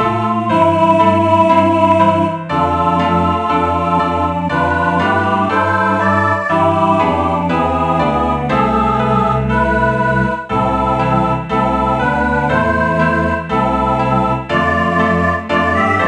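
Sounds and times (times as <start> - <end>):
synthesized organ-like choral chords: 0.0 - 16.0.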